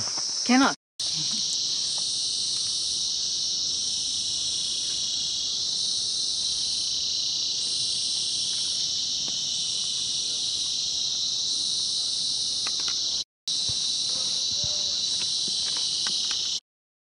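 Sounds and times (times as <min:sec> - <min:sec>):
insects droning: 0:00.0 - 0:16.6.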